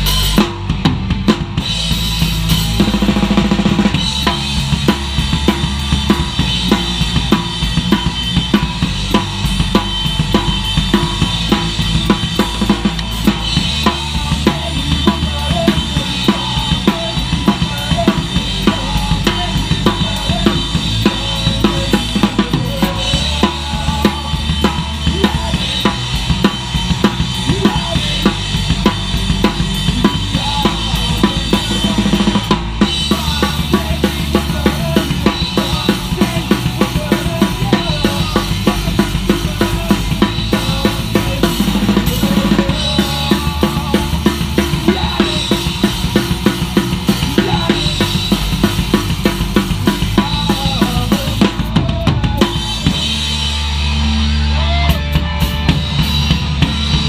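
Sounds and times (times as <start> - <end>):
distorted electric guitar: 0.0 - 57.0
drum kit pounding: 0.0 - 57.0
electric bass: 0.0 - 57.0.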